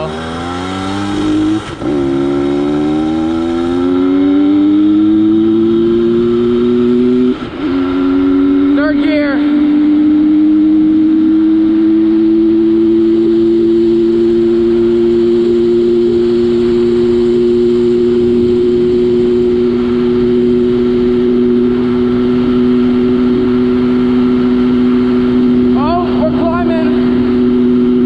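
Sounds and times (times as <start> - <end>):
two-stroke motorbike engine at full speed: 0.0 - 28.0.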